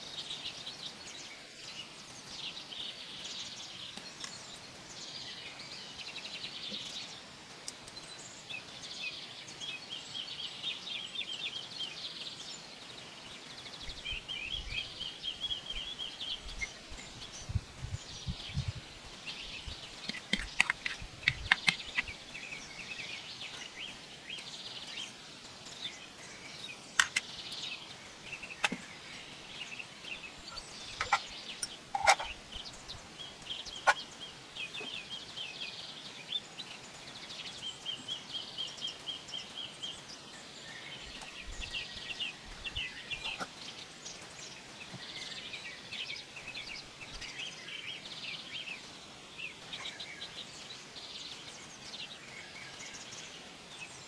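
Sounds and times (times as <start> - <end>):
birds chirping and trilling: 0.0 - 54.0
steady background noise: 0.0 - 54.0.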